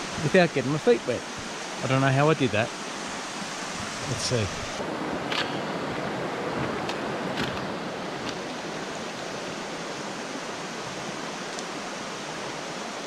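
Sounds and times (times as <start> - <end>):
water running over rocks: 0.0 - 13.0.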